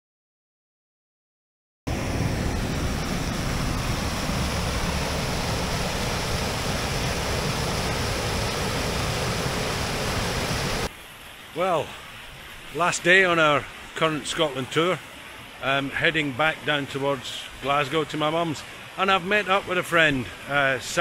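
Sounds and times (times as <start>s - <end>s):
waterfall rushing: 1.9s - 21.0s.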